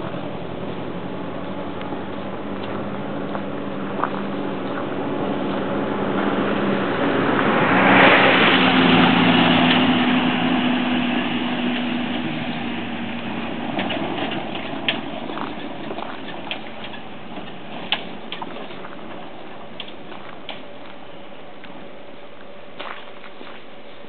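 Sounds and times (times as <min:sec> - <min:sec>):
vehicle passing by: 0:00.0 - 0:20.3
vehicle engine running: 0:00.0 - 0:23.6.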